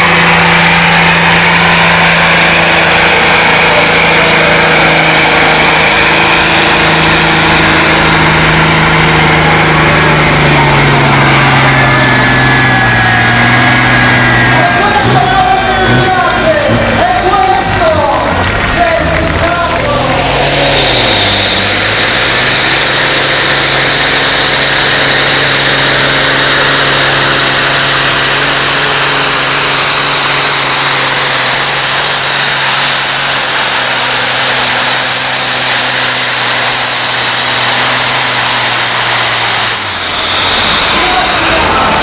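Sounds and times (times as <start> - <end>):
tractor engine at high revs: 0.0 - 42.0.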